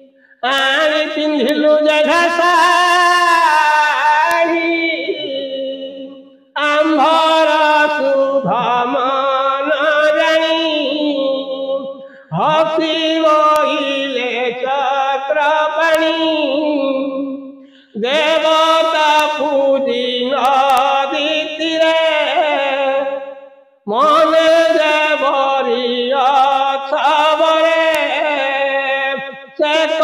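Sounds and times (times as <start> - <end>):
person chanting melodically: 0.0 - 30.0.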